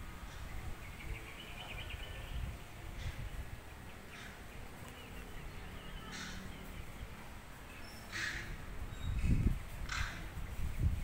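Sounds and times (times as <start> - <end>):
low uneven rumble: 0.0 - 11.0
faint bird chirps: 0.3 - 9.5.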